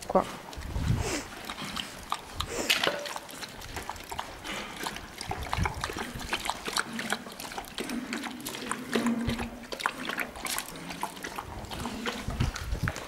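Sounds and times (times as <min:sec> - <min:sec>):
dogs lapping water: 0:00.0 - 0:13.0.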